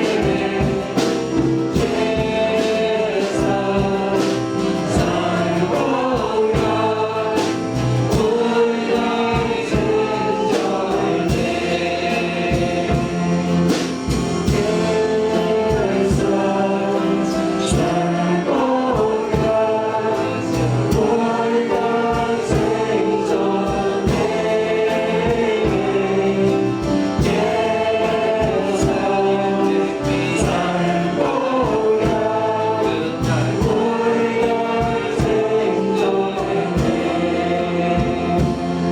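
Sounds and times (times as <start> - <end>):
congregation singing: 0.0 - 38.9
live band with steady beat: 0.0 - 38.9.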